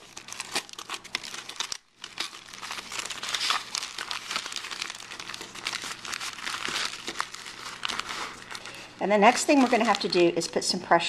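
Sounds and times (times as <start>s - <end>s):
foil and plastic bag crinkling: 0.0s - 10.7s.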